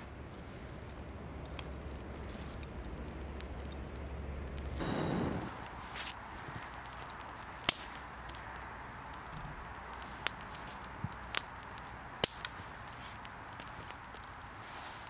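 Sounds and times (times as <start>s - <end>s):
campfire cracks and pops: 0.0s - 15.0s
fire hissing: 0.0s - 15.0s.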